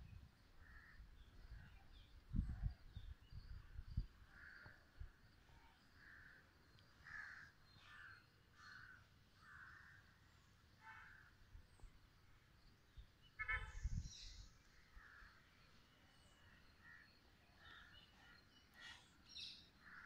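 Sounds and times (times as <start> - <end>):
faint bird calls: 0.6 - 11.9, 13.2 - 20.0.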